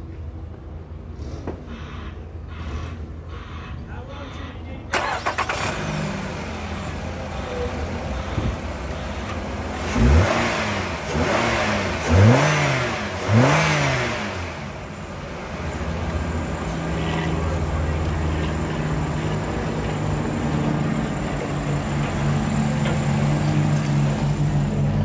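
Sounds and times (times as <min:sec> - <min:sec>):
car engine idling: 0:04.9 - 0:25.0
car engine starting: 0:04.9 - 0:25.0
car engine revving: 0:05.0 - 0:25.0.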